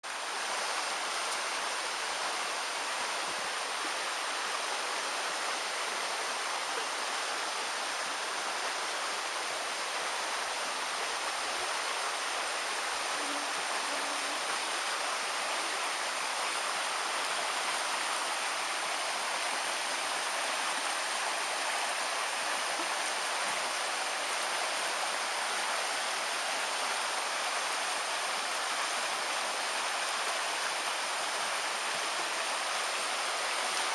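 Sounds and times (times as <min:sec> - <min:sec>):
running water hiss: 0:00.1 - 0:33.9.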